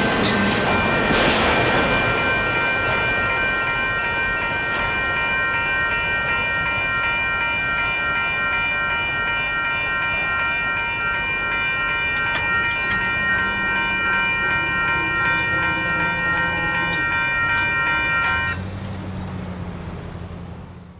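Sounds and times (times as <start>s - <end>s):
railroad crossing bells ringing: 0.0s - 20.9s.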